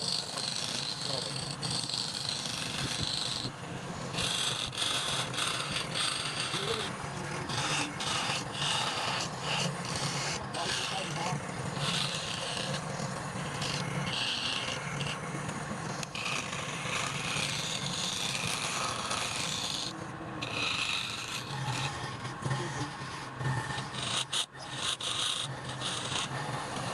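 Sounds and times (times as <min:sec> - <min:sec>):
abrasive rubbing on wood: 0:00.0 - 0:26.9.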